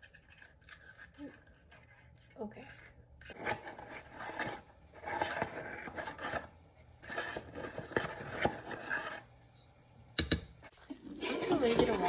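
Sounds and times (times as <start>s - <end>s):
spoon scraping container: 0.0s - 9.4s, 10.6s - 12.0s.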